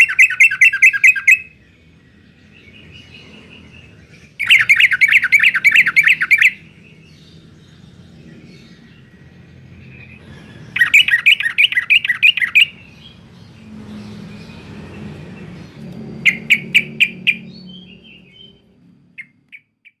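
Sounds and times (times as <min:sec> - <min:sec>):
bird chattering song: 0:00.0 - 0:20.0.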